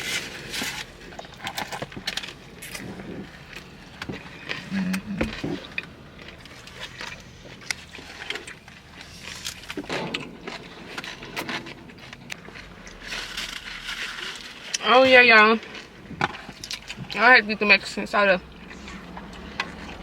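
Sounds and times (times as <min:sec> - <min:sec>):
chewing with clicks and crackles: 0:00.0 - 0:20.0.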